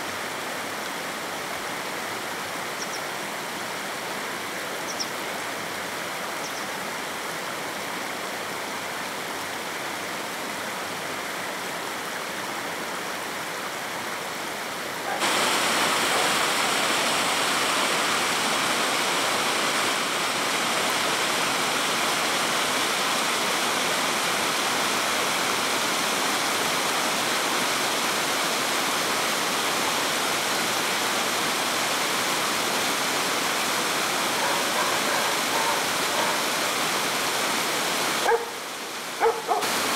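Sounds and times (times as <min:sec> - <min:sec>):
stream water splashing over rocks: 0:00.0 - 0:39.9.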